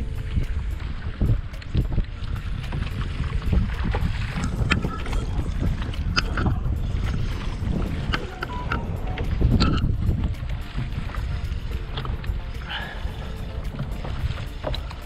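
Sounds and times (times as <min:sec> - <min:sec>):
water slapping against hull: 0:00.0 - 0:15.0
wind buffeting microphone: 0:00.0 - 0:15.0.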